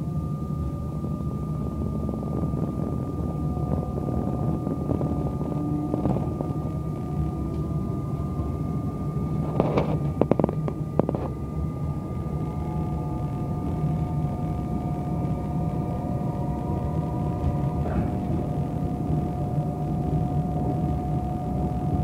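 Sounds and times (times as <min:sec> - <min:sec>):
thin steady whine: 0:00.0 - 0:22.0
train rumble: 0:00.0 - 0:22.0.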